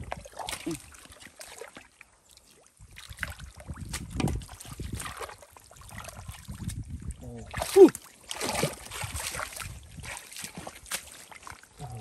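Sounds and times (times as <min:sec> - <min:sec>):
hands squelching through mud: 0:00.0 - 0:12.0.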